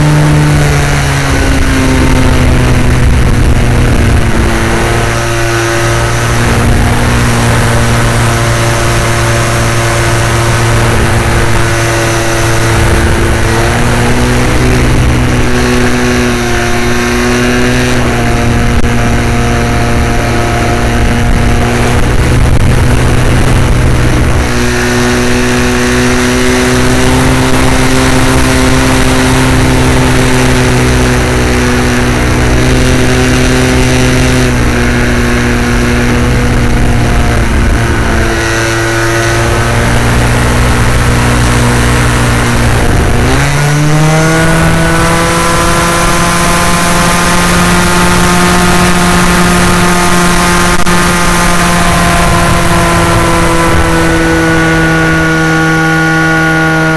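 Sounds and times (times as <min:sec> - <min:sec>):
model plane engine and propeller: 0:00.0 - 0:56.9
wind rush: 0:00.0 - 0:56.9.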